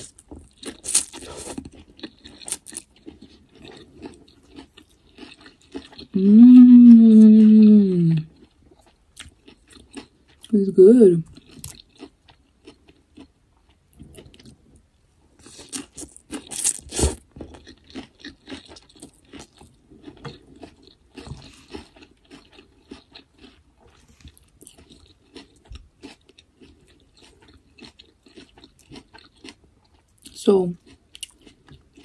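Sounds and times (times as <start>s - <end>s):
person chewing and crunching food: 0.0s - 32.0s.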